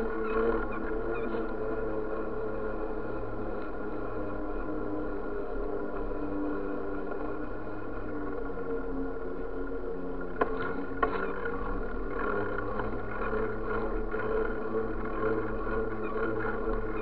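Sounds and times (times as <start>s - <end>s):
bicycle rolling on asphalt: 0.0s - 17.0s.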